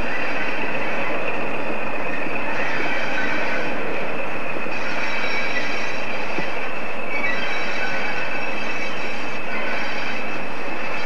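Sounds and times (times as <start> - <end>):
diesel locomotive engines droning: 0.0 - 11.0
high-pitched whine: 0.0 - 11.0.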